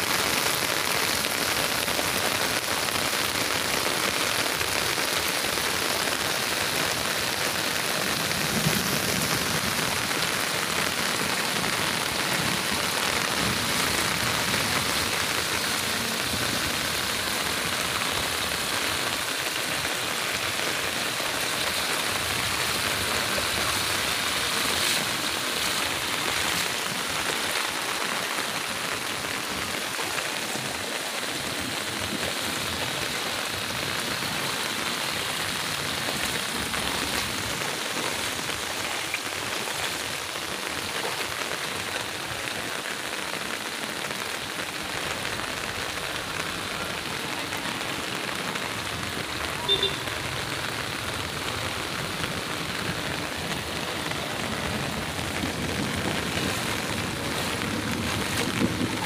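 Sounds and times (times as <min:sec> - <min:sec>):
heavy rain on standing water: 0:00.0 - 0:59.0.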